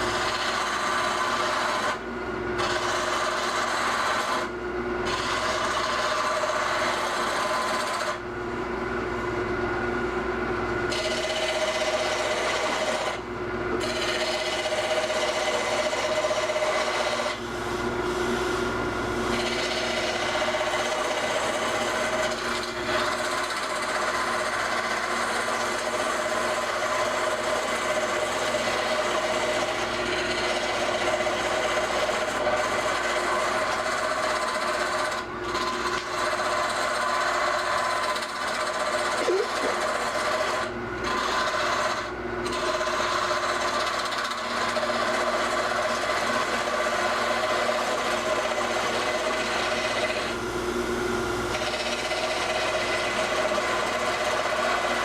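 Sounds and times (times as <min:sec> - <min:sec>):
chisel scraping spinning wood: 0:00.0 - 0:08.2, 0:10.9 - 0:50.5, 0:51.5 - 0:55.0
lathe hum: 0:00.0 - 0:55.0.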